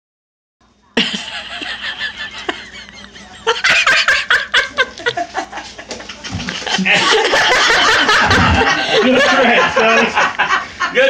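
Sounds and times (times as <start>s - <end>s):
person laughing: 1.0s - 5.9s, 6.7s - 11.0s.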